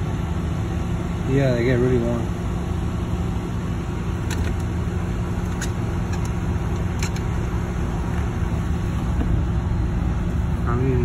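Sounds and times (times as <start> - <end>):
low machinery rumble and hum: 0.0 - 11.0.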